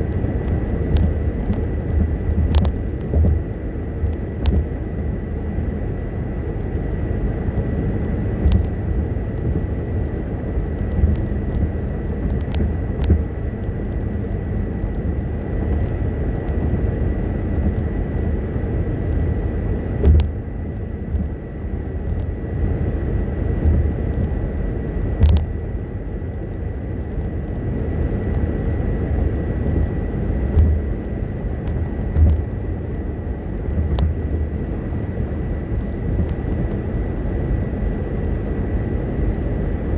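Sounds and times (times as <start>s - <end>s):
tyre and engine rumble: 0.0s - 39.9s.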